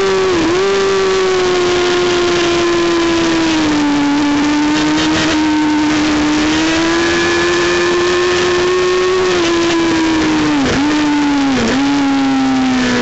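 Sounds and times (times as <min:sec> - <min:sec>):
high-revving motorcycle engine: 0:00.0 - 0:13.0.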